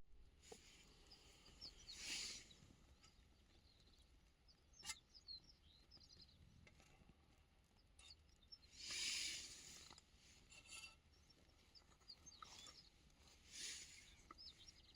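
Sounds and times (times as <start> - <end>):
faint bird chirps: 0.5 - 6.6, 7.7 - 14.9.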